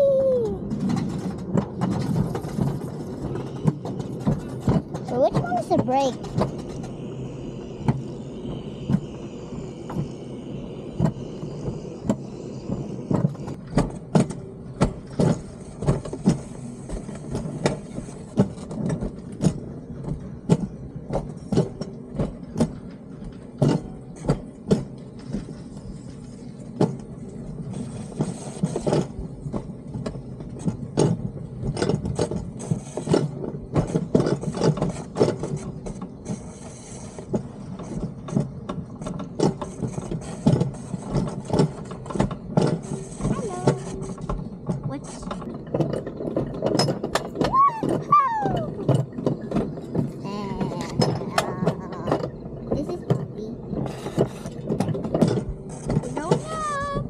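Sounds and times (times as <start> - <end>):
wheels rumbling on track: 0.0 - 57.0.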